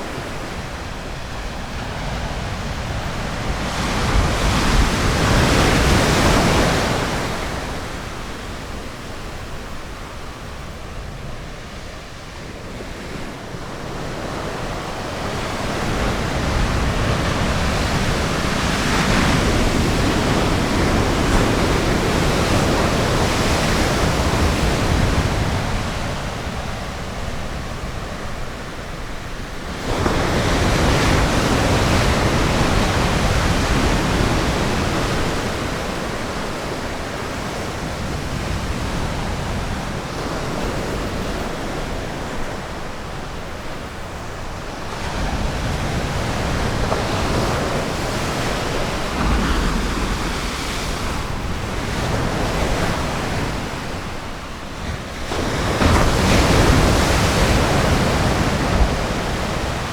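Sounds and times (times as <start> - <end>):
ocean waves on a beach: 0.0 - 59.9.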